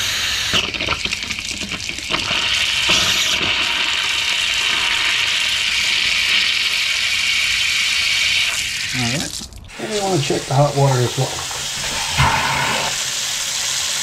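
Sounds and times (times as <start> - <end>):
water gushing from hose spigot: 0.0 - 14.0.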